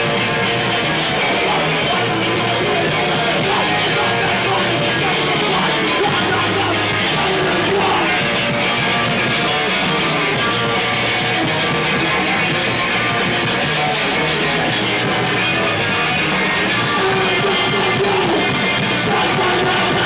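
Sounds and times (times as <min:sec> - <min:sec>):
loud electric guitar: 0:00.0 - 0:20.0
punk band playing live: 0:00.0 - 0:20.0.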